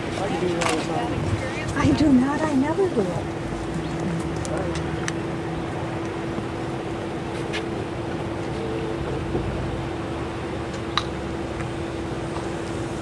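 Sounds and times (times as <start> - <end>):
ship machinery droning rumble: 0.0 - 13.0.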